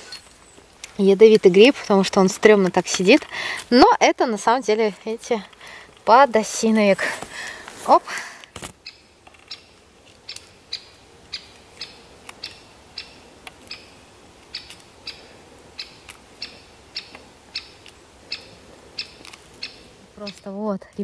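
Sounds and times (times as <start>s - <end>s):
small bird calling: 0.0s - 20.6s.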